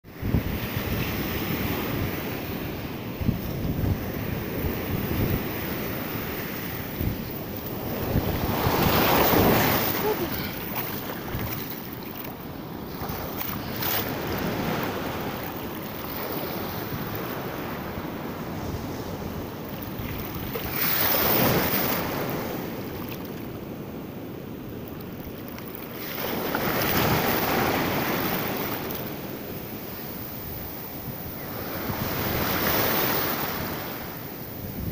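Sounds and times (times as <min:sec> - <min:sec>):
wind buffeting microphone: 0:00.0 - 0:23.1, 0:26.0 - 0:34.9
surf washing over sand: 0:00.1 - 0:34.9.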